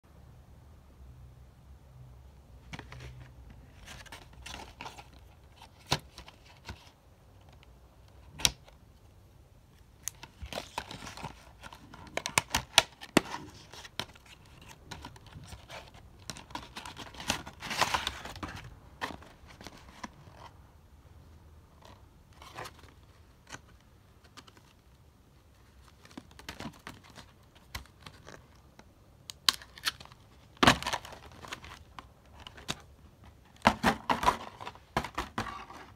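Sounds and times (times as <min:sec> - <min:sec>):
cardboard and plastic rustling: 0:02.6 - 0:08.7, 0:10.0 - 0:20.6, 0:21.7 - 0:24.9, 0:25.5 - 0:28.8, 0:29.5 - 0:35.9.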